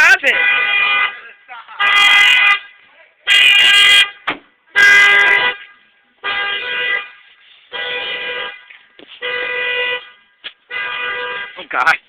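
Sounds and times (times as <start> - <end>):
car alarm horn blasts: 0.0 - 12.0.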